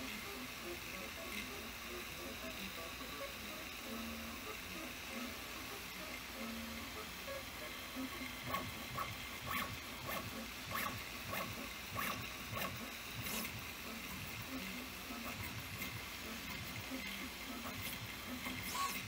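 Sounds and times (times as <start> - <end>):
printer motor hum: 0.0 - 19.0.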